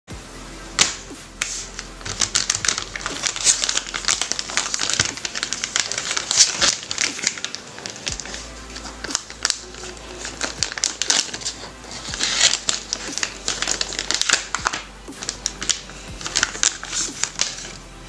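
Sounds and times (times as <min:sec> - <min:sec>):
plastic sachet crinkling: 0:00.8 - 0:17.8.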